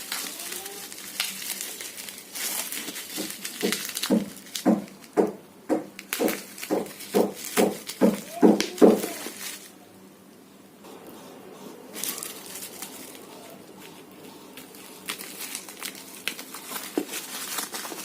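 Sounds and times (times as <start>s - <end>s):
packaging being torn open: 0.0s - 5.2s, 6.0s - 9.7s, 12.0s - 18.0s.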